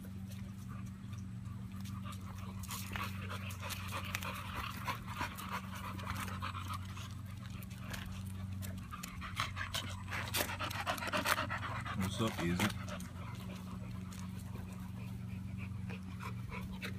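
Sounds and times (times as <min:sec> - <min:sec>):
dog panting rapidly: 0:00.0 - 0:16.9
steady low hum: 0:00.0 - 0:16.9.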